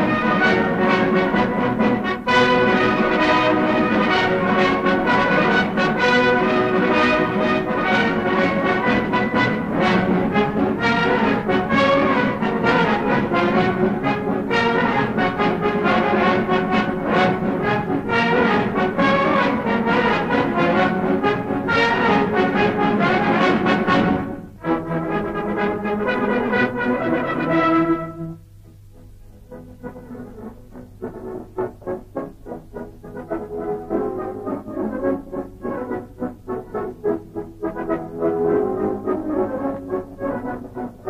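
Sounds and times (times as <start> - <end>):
military brass band playing: 0.0 - 41.0.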